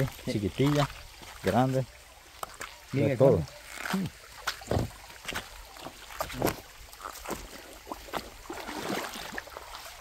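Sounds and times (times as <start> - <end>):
stream water trickling: 0.0 - 10.0
water splashes: 0.0 - 10.0.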